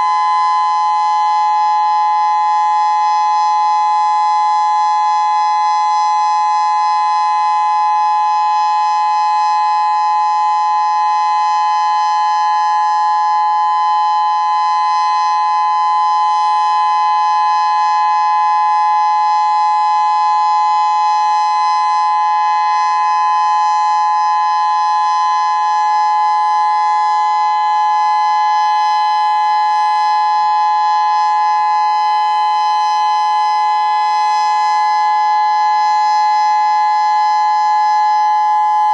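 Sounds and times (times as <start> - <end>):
steady two-note warning siren: 0.0 - 38.9.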